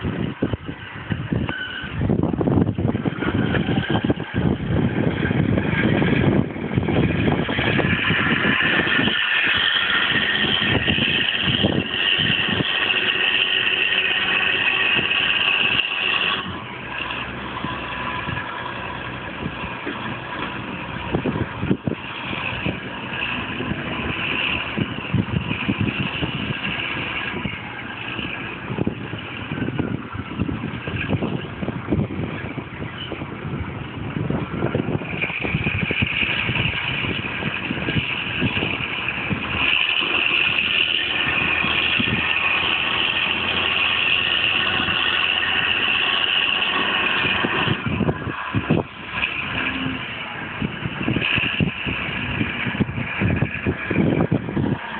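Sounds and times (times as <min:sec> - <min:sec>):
diesel truck engine running: 0:00.0 - 0:54.9
high whine: 0:00.0 - 0:54.9.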